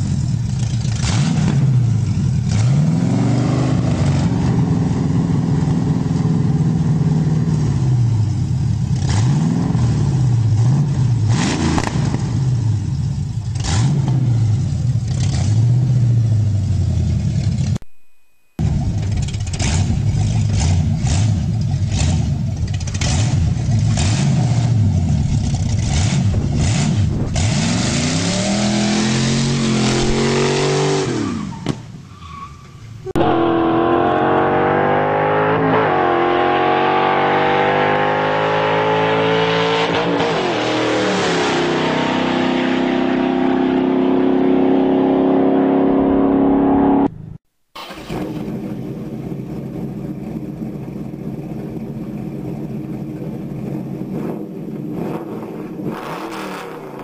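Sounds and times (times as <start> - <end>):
car engine choppy idle and revving: 0.0 - 43.0, 43.6 - 57.0.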